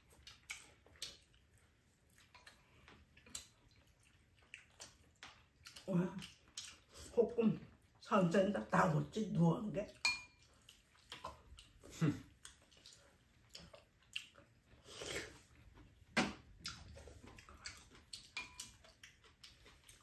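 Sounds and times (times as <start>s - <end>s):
people chewing: 0.0s - 8.0s, 9.8s - 20.0s.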